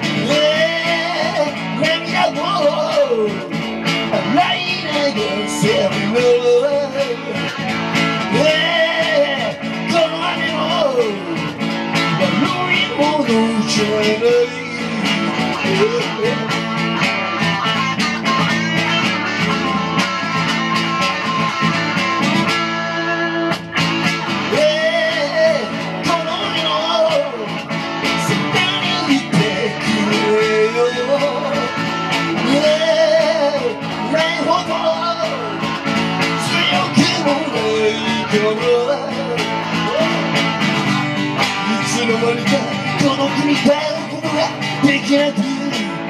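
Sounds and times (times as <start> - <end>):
live band playing: 0.0 - 46.0
melodic lead line: 0.0 - 46.0.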